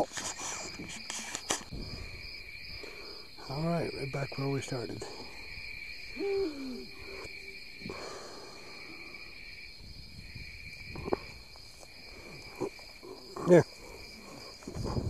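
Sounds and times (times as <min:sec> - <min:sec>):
insects droning in grass: 0:00.0 - 0:15.0.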